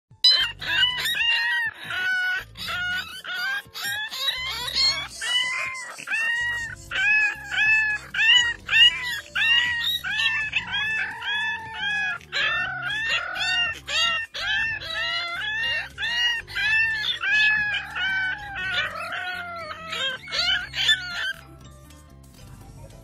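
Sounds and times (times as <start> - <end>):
puppies yelping and howling: 0.2 - 21.7
background music with bass: 0.2 - 23.0.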